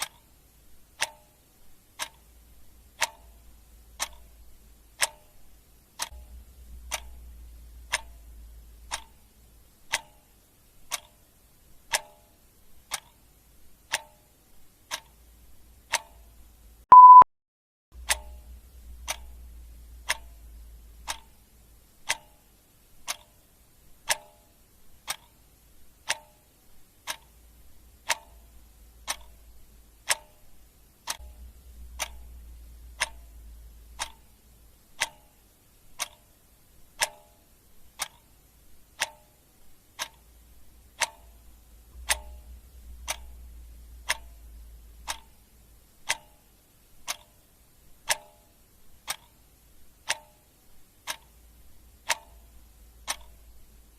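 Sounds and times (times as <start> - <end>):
clock ticking: 0.0 - 17.2, 18.0 - 53.9
faint low hum: 0.0 - 17.2, 18.0 - 53.9.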